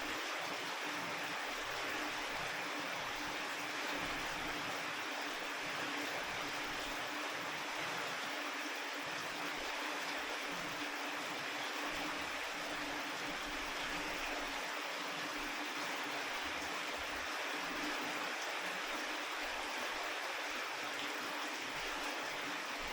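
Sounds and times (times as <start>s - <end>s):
faint steady hum: 0.0s - 22.9s
steady rain falling: 0.0s - 22.9s.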